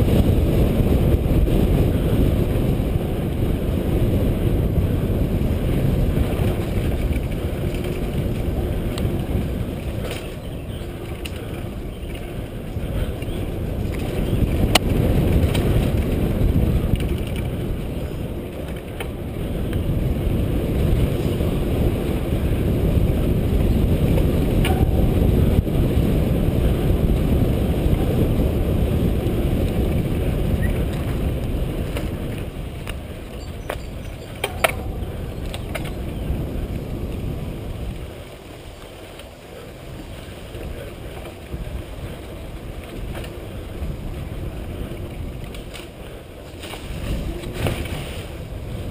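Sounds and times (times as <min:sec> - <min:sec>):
bike rumbling and rattling on dirt: 0:00.0 - 0:48.9
wind rushing over microphone: 0:00.0 - 0:48.9.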